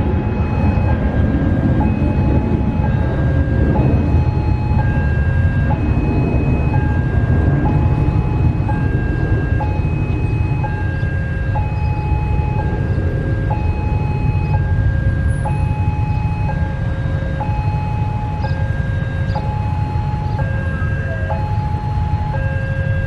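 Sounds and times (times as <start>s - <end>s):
level crossing alarm two tones: 0.0s - 23.0s
steady low rumble: 0.0s - 23.0s.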